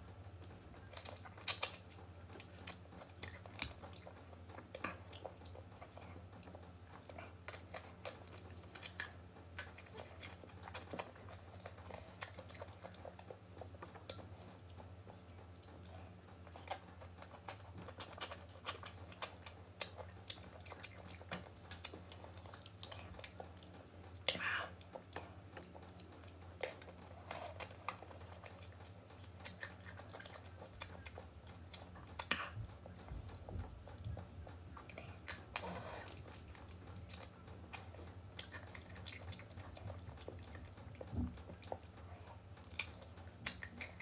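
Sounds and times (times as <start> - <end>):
low steady hum: 0.0 - 44.0
crunchy chewing: 0.2 - 44.0.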